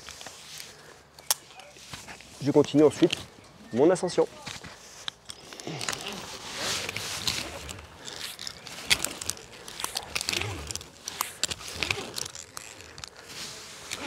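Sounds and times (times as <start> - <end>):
climbing gear clicking and rattling: 0.0 - 14.0.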